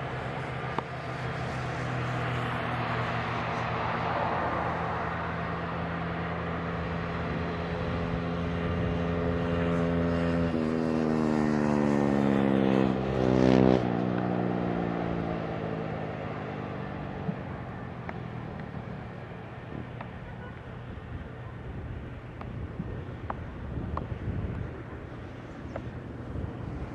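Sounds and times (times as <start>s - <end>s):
jet airliner passing: 0.0s - 26.9s.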